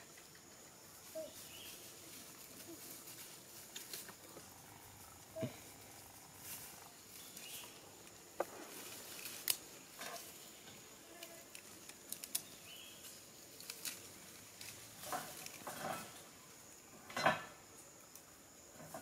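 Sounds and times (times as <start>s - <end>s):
twigs and dry leaves crackling: 1.0s - 16.5s.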